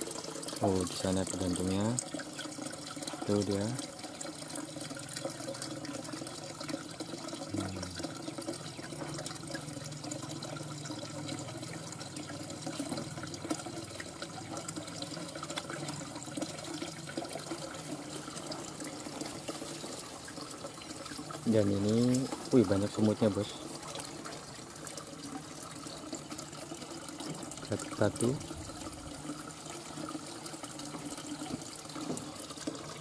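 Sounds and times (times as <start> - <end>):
trickling water: 0.0 - 33.0.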